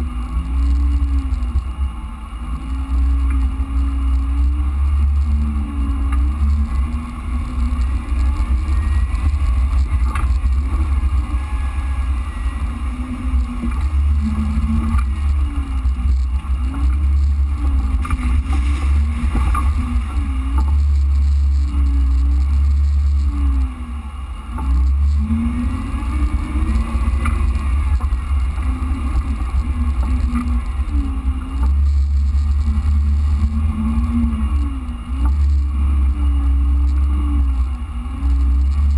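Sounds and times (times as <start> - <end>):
heavy low rumble on microphone: 0.0 - 38.9
off-road vehicle engine: 0.0 - 38.9.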